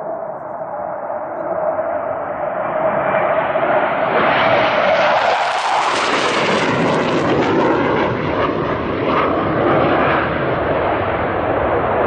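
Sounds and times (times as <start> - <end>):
jet passing at low level: 0.0 - 12.0.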